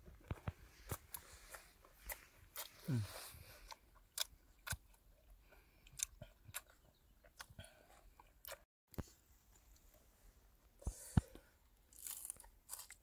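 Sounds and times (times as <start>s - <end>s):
person chewing crunchy food: 0.2s - 8.7s, 10.8s - 13.0s.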